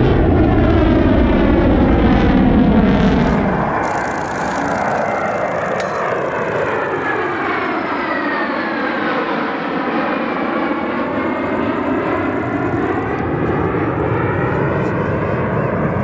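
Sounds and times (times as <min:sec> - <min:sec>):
jet engines passing overhead: 0:00.0 - 0:16.0.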